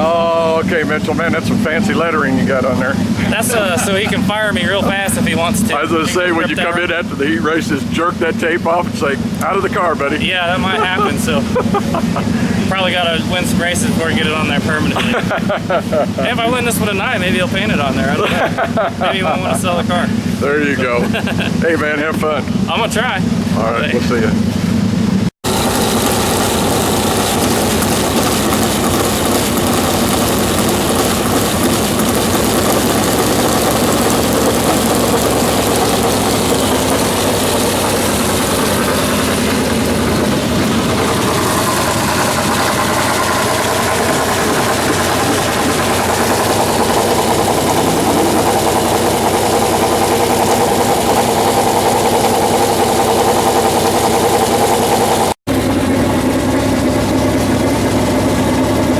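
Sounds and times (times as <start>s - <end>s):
race car engines running: 0.0s - 58.9s.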